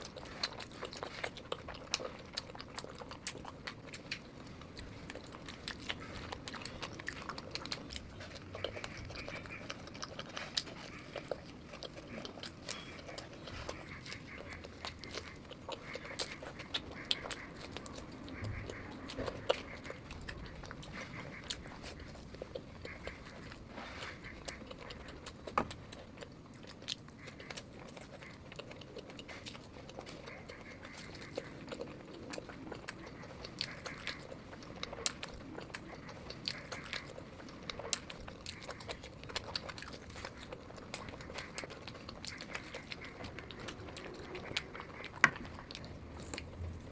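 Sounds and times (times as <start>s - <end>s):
chewing with wet mouth clicks: 0.0s - 46.9s.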